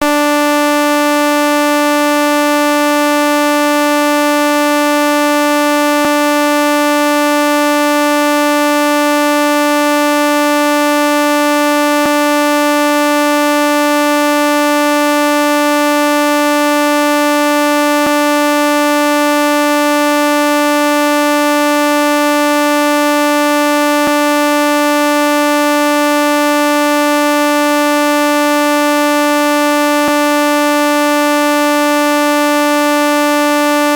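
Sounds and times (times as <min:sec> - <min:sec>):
steady electronic buzzing tone: 0:00.0 - 0:33.9.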